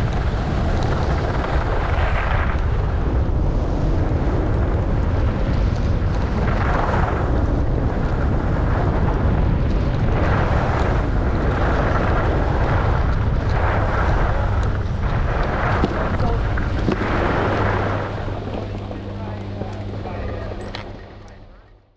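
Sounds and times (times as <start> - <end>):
wind buffeting microphone: 0.0 - 21.6
skis carving across snow: 3.3 - 21.0.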